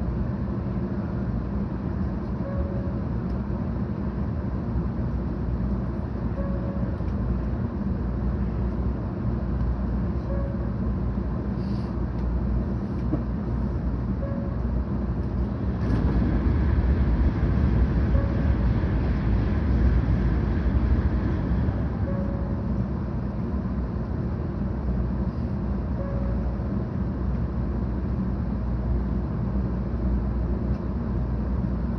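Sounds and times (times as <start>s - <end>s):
train wheels and air rumbling: 0.0s - 31.9s.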